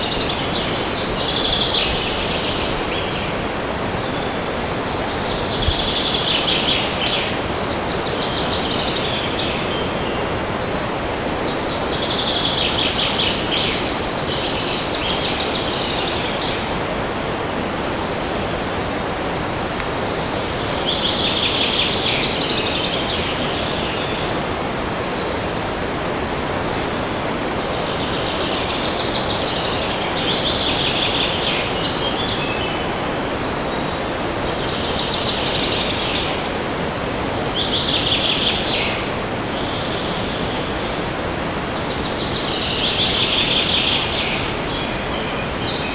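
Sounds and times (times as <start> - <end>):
wind through forest: 0.0 - 45.9.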